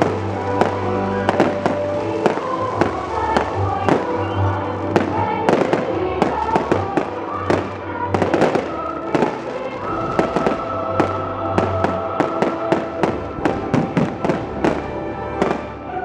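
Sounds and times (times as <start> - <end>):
fireworks launching and bursting: 0.0 - 15.8
music with sustained notes: 0.0 - 16.0.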